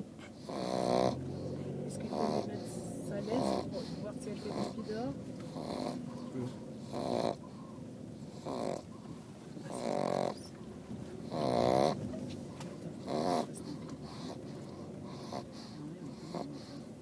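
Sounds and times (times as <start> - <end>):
puppy snoring: 0.0 - 17.0.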